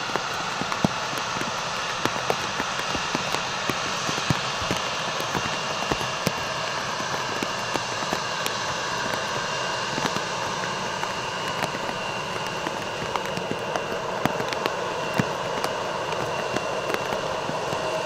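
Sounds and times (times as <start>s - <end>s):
jet engine running at low power: 0.0s - 18.0s.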